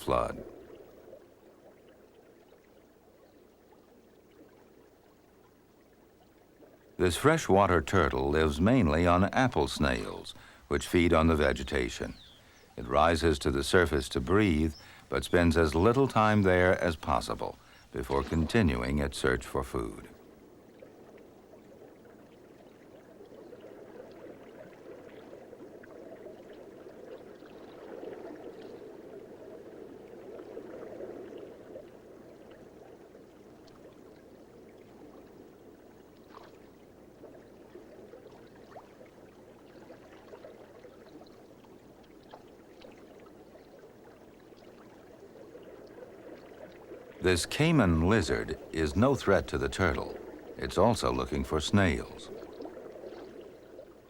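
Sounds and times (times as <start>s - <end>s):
faint ticks and drips: 0.0s - 54.0s
moving water: 0.0s - 54.0s.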